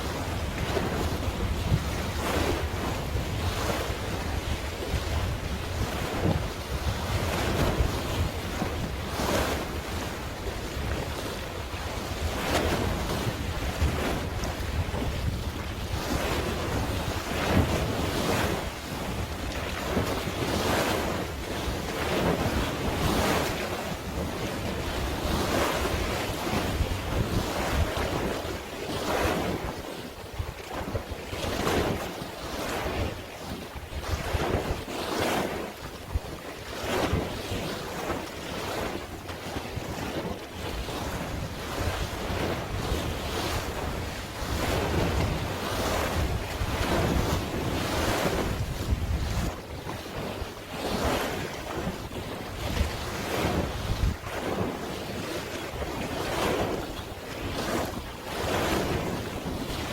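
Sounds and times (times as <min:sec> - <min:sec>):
waves washing in: 0:00.0 - 0:59.9
wind buffeting microphone: 0:00.0 - 0:59.9.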